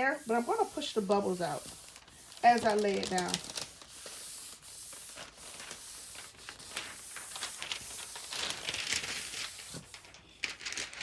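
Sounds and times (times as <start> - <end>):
plastic film crinkling and rubbing: 0.0 - 11.0.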